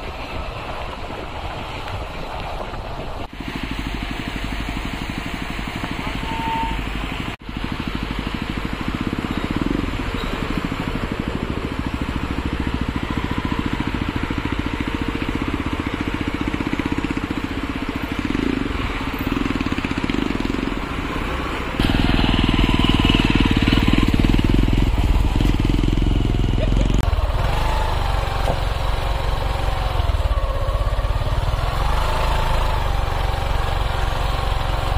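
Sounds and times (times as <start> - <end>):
diesel engine running: 3.2 - 34.9.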